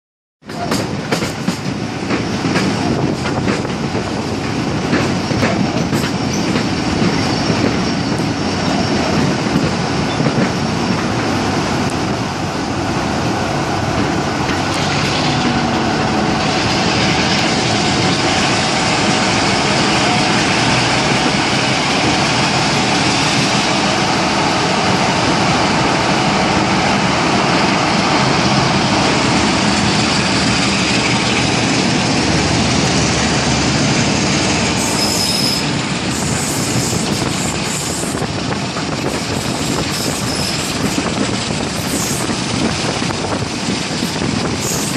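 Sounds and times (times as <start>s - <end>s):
diesel locomotive engine running: 0.4s - 44.9s
wheels rumbling on rails: 0.4s - 44.9s
wind buffeting microphone: 0.8s - 34.9s, 35.6s - 44.9s.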